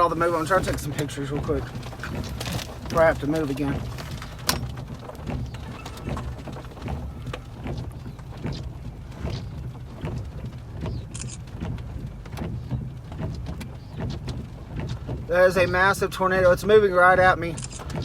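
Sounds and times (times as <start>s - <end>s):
rain tapping on vehicle: 0.0s - 18.0s.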